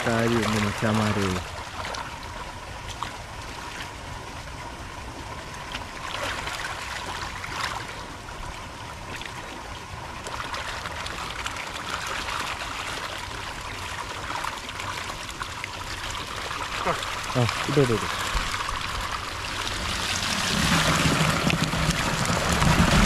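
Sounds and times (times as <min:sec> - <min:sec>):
water sloshing and trickling: 0:00.0 - 0:23.0
water splashes: 0:00.0 - 0:23.0.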